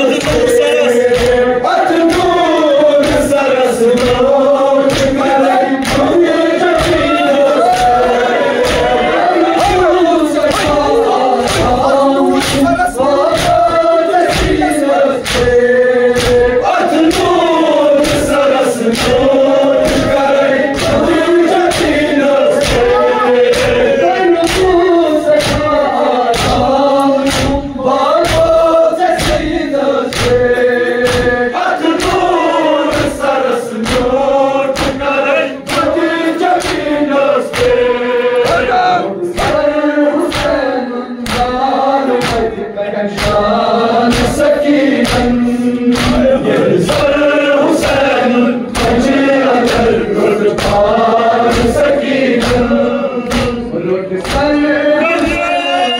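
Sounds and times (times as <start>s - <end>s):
hands slapping chests: 0.0s - 9.0s, 9.6s - 40.6s, 41.2s - 45.3s, 45.9s - 47.2s, 47.8s - 54.6s
men chanting in unison: 0.0s - 55.9s.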